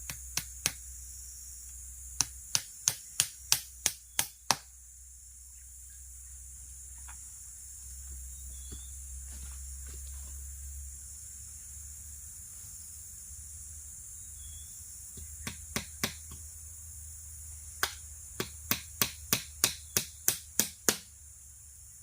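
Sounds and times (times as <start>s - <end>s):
insect chorus: 0.0s - 22.0s.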